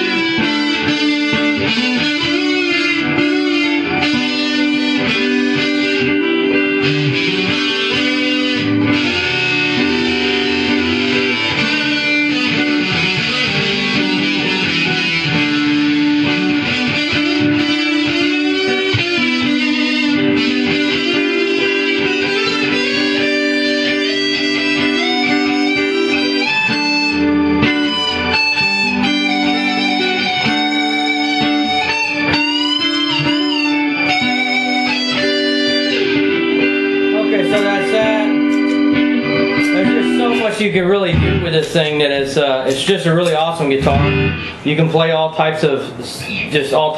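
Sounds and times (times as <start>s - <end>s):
electric guitar lead with bends: 0.0s - 46.9s
looped rhythm guitar: 0.0s - 46.9s.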